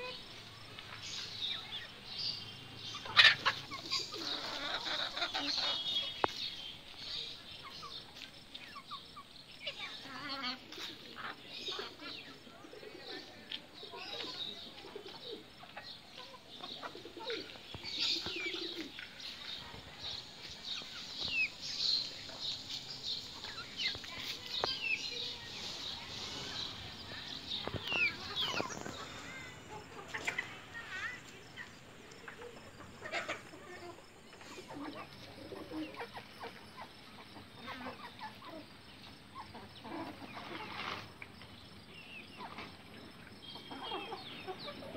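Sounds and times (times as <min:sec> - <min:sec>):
birds chirping: 0:00.0 - 0:44.9
chickens clucking: 0:00.0 - 0:44.9.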